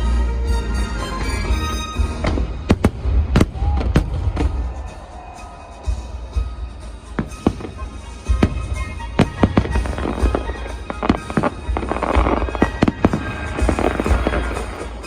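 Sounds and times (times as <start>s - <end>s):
show music: 0.0s - 15.0s
fireworks crackling: 1.2s - 15.0s
fireworks bangs: 2.0s - 15.0s.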